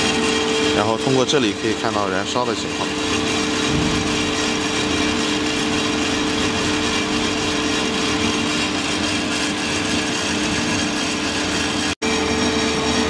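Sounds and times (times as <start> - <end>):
coffee roaster whirring: 0.0 - 13.0.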